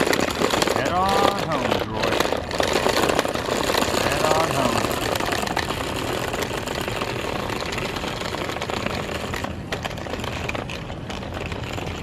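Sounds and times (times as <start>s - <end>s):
wheels rattling over ground: 0.0s - 12.0s.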